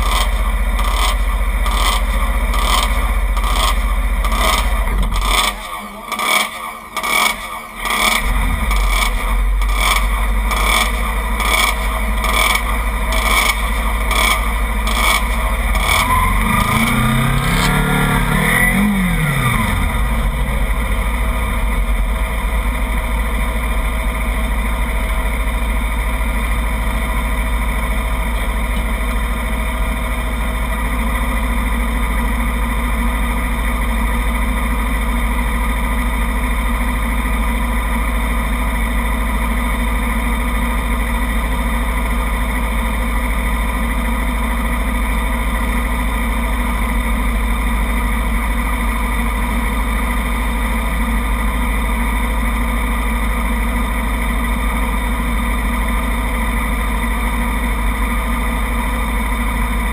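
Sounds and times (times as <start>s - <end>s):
motorcycle engines idling: 0.0s - 59.9s.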